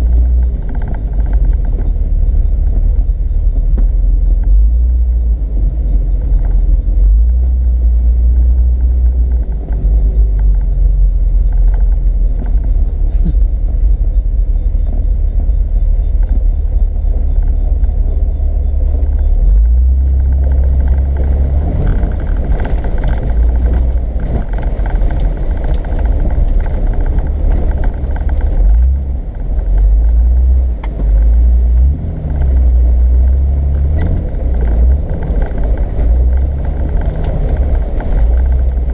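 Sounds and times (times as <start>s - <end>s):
off-road vehicle engine rumble: 0.0s - 38.9s
rattles and clatter: 0.0s - 38.9s.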